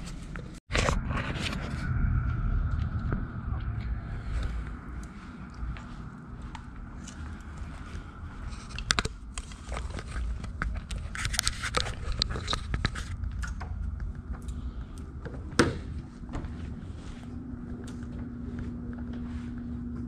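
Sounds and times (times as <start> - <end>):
low steady rumble: 0.9 - 20.0.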